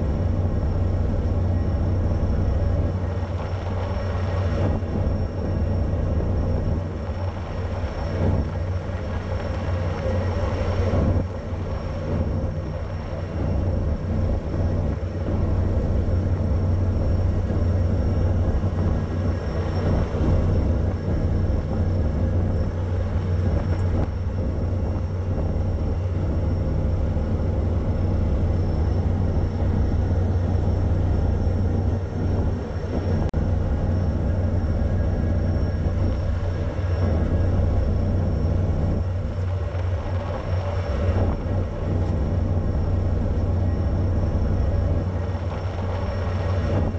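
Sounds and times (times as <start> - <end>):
ship engine rumbling: 0.0 - 46.9.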